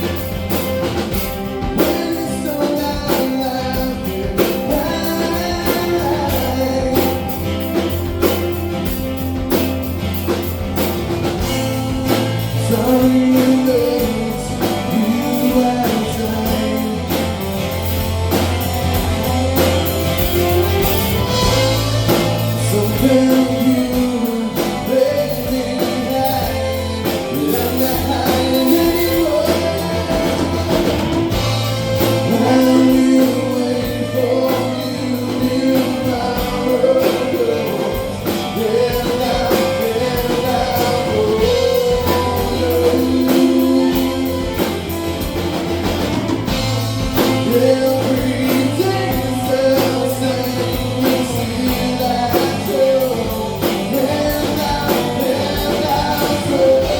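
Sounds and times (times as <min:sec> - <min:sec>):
person singing: 0:00.0 - 0:09.6, 0:10.2 - 0:56.9
live rock band playing: 0:00.0 - 0:56.9.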